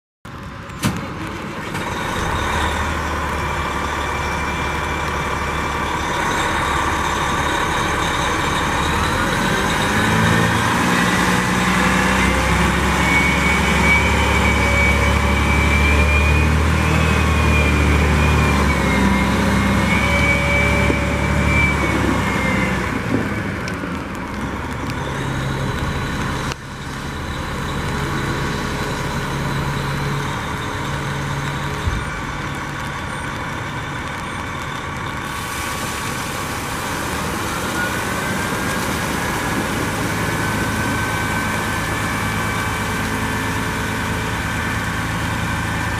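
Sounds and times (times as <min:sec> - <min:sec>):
dump truck diesel engine running: 0:00.3 - 0:45.9.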